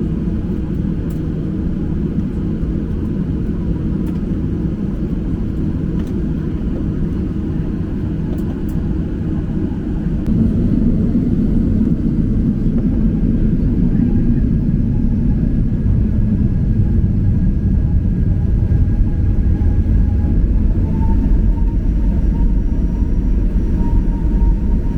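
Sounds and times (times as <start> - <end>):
jet engine rumble: 0.0 - 24.9.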